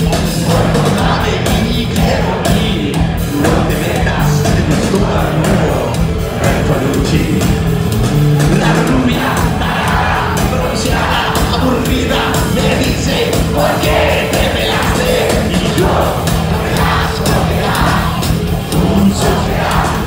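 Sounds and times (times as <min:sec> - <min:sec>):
crowd singing and yelling: 0:00.0 - 0:20.0
live rock band: 0:00.0 - 0:20.0.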